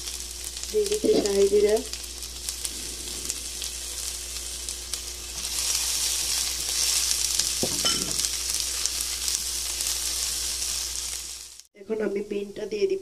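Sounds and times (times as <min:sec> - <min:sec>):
onions sizzling in oil: 0:00.0 - 0:11.7.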